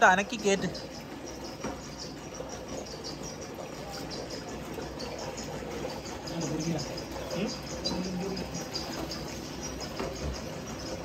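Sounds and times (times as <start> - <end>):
water sloshing and trickling: 0.0 - 11.0.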